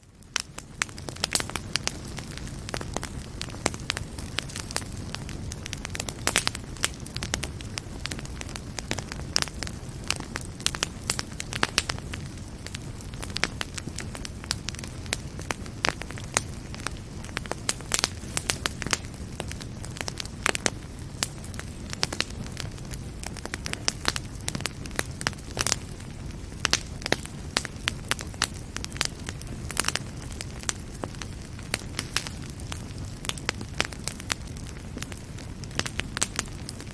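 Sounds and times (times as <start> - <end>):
low rumble of flame: 0.0 - 36.9
wood fire crackling and popping: 0.0 - 36.9.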